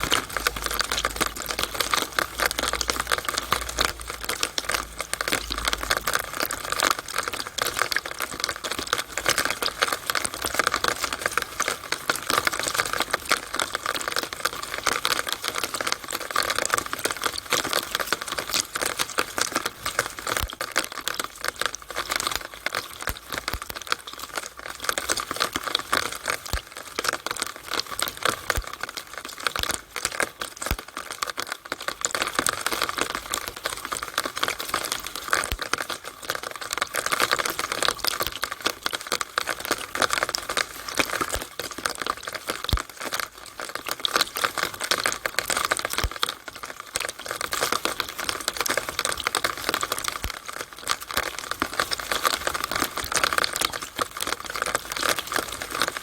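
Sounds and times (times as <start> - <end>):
rainwater dripping and splashing: 0.0 - 56.0.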